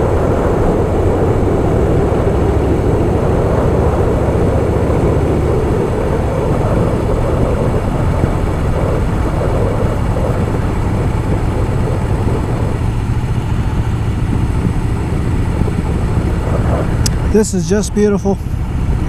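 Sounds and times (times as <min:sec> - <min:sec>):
motorcycle engine running: 0:00.0 - 0:19.0
wind rushing past microphone: 0:00.0 - 0:19.0.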